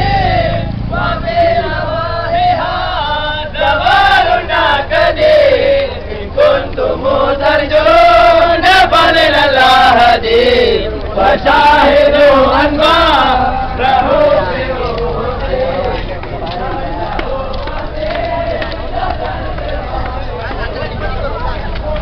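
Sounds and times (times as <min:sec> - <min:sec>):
men chanting in unison: 0:00.0 - 0:22.0.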